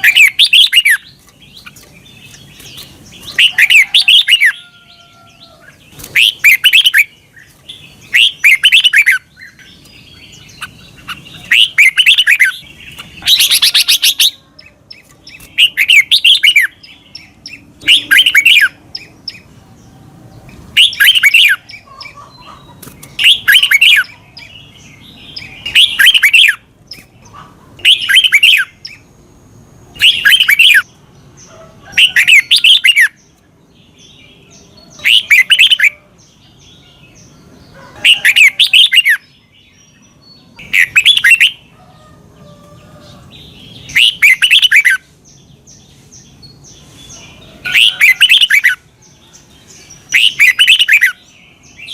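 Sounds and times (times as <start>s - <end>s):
bird singing chirping phrase: 0.0s - 29.2s, 29.8s - 51.9s.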